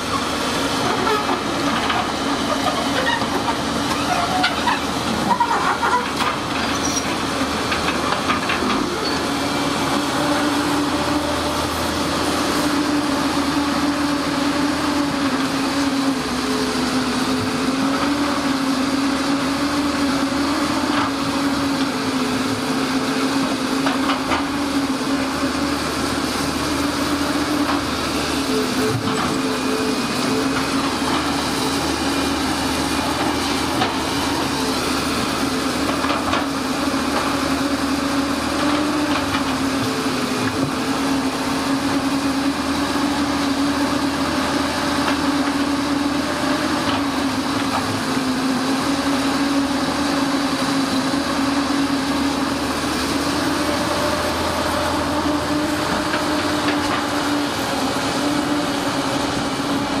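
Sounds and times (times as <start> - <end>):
excavator diesel engines droning: 0.0 - 60.0.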